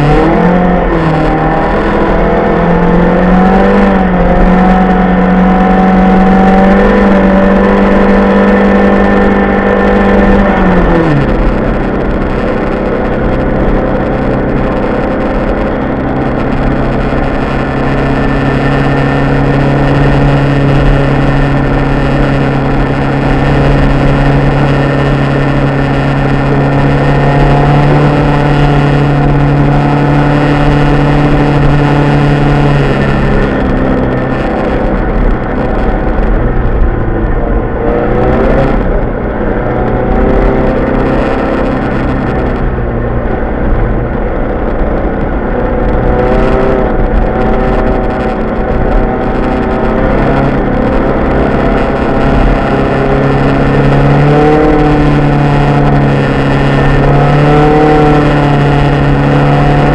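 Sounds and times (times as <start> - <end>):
car engine at high revs: 0.0 - 59.9
road and tyre noise: 0.0 - 59.9.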